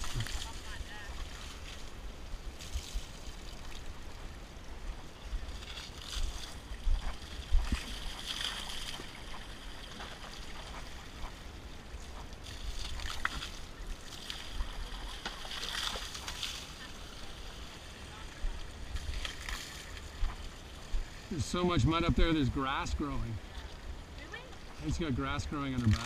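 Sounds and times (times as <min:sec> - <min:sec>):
wind rumble on microphone: 0:00.0 - 0:15.3, 0:16.1 - 0:25.1
water splashing and sloshing: 0:00.0 - 0:26.0.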